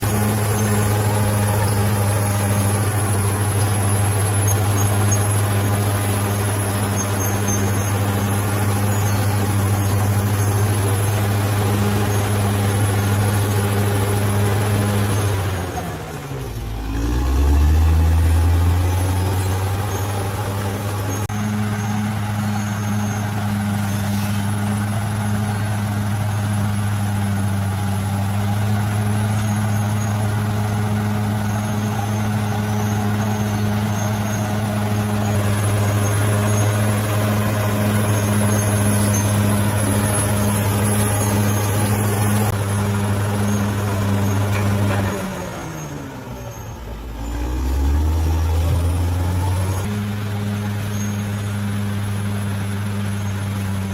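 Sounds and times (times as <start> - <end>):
bulldozer diesel engine: 0.0 - 53.9.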